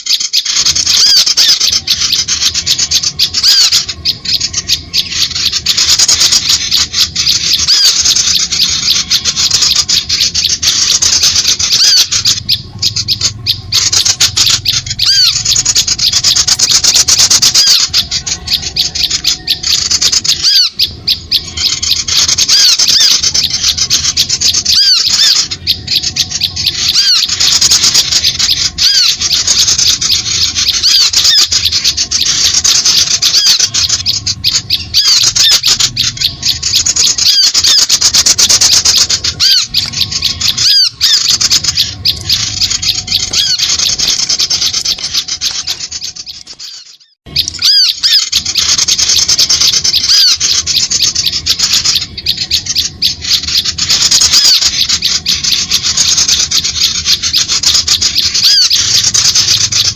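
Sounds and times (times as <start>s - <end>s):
small birds chattering: 0.0s - 59.9s.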